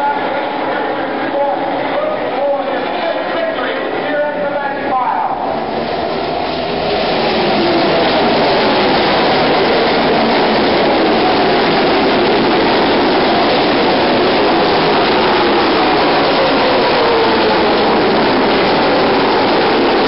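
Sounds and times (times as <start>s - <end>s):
race car engines passing: 0.0s - 20.0s.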